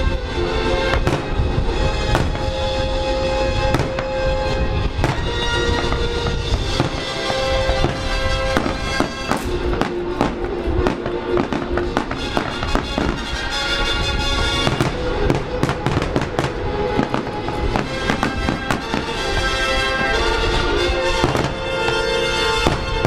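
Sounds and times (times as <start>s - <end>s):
fireworks bursting: 0.0s - 23.0s
music with long held notes: 0.0s - 23.0s.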